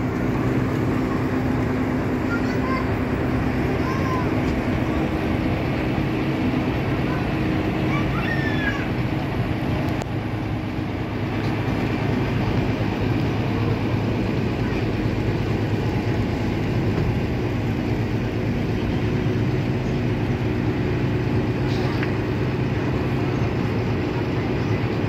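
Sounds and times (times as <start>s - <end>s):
ferry engine drone: 0.0s - 25.0s.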